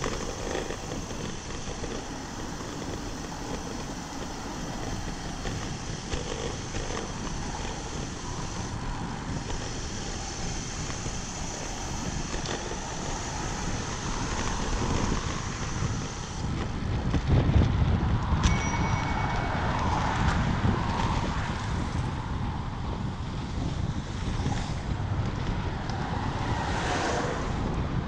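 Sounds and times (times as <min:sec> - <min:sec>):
road bike rolling: 0:00.0 - 0:28.0
wind buffeting microphone: 0:00.0 - 0:28.0.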